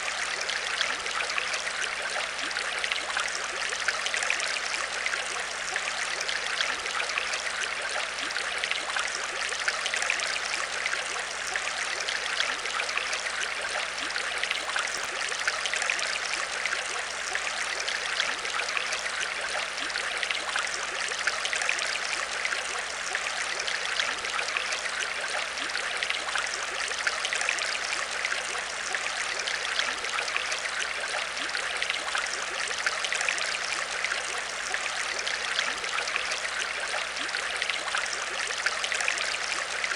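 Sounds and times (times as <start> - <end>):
aquarium water bubbling: 0.0 - 39.9.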